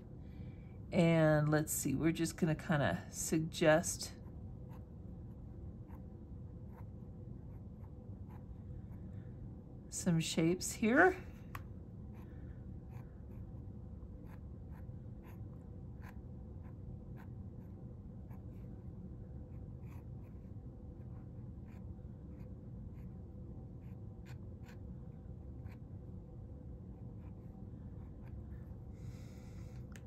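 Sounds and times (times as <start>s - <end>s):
faint low room hum: 0.0s - 30.0s.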